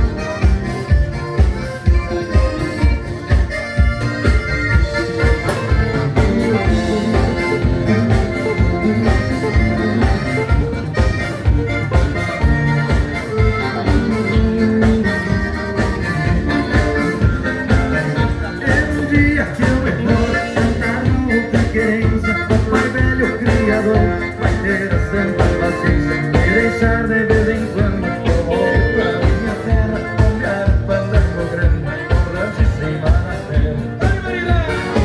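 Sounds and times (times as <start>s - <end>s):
accordion: 0.0s - 35.0s
bass and drum beat: 0.0s - 35.0s.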